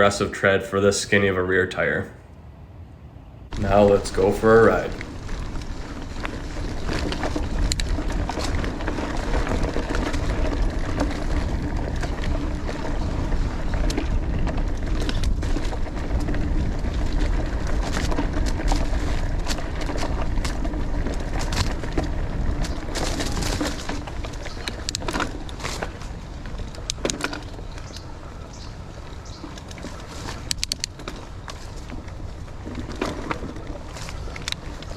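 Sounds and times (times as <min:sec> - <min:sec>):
wind and tyres rumbling: 0:01.8 - 0:34.9
bike clicks and rattles: 0:03.5 - 0:34.9.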